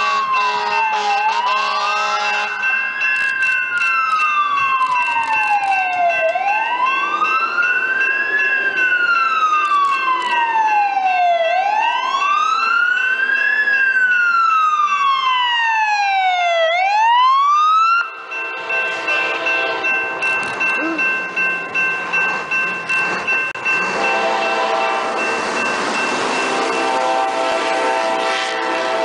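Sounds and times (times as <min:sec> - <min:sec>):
emergency siren wailing: 0:00.0 - 0:29.0
steady high siren tone: 0:00.0 - 0:29.0.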